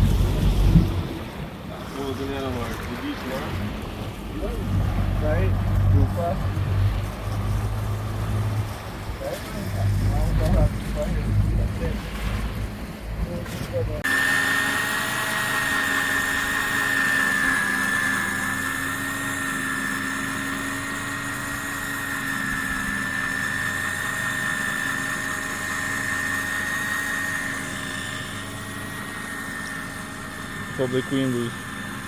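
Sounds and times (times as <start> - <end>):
motor whining: 0.0 - 32.0.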